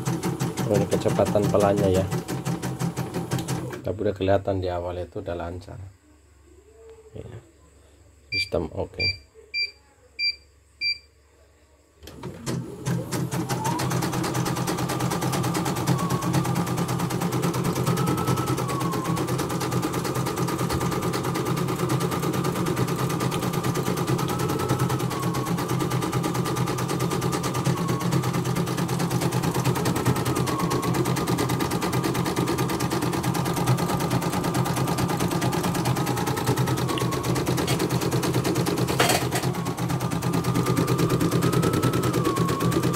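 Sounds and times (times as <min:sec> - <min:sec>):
embroidery machine stitching: 0:00.0 - 0:03.8, 0:12.1 - 0:42.9.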